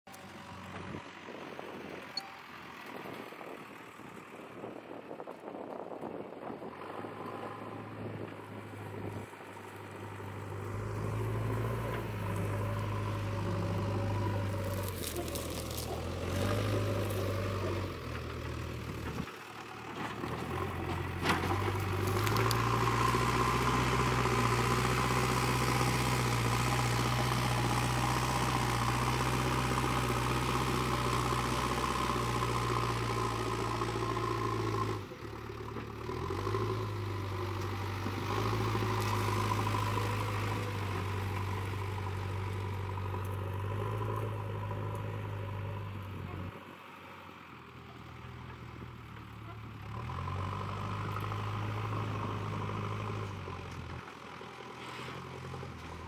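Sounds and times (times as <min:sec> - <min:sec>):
diesel engine running under load: 0:00.1 - 0:56.0.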